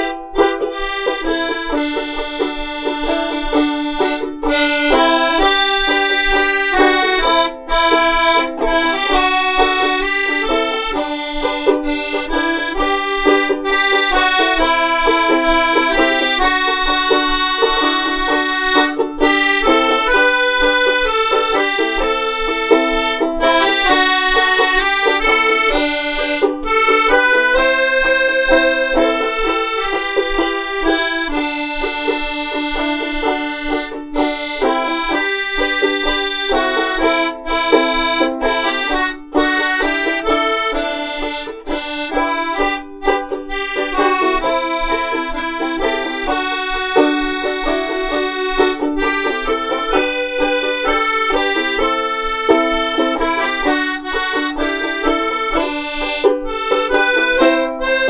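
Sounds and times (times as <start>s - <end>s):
accordion folk tune: 0.0s - 58.0s
banjolele accompanying: 0.0s - 58.0s.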